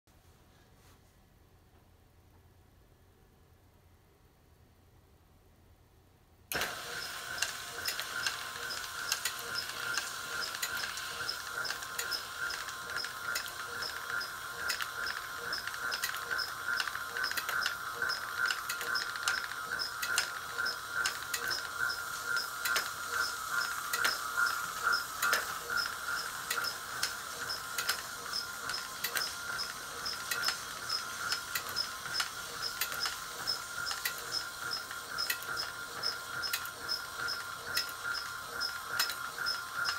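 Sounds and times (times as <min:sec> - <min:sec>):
mechanical clicks: 0:06.5 - 0:39.9.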